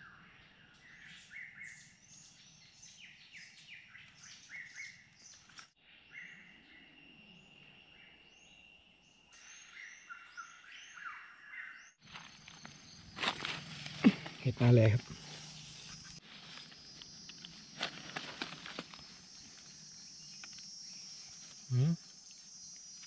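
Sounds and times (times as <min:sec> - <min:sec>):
birds chirping and whistling: 0:00.0 - 0:23.0.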